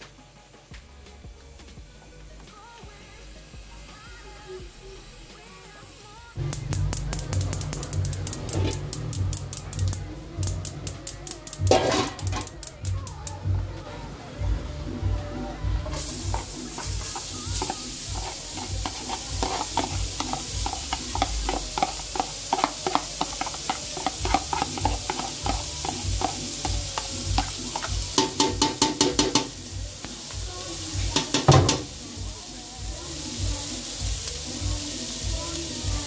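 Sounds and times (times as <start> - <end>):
chicken sizzling in a pot: 0.0 - 13.4, 15.9 - 36.0
background music with a beat: 0.0 - 36.0.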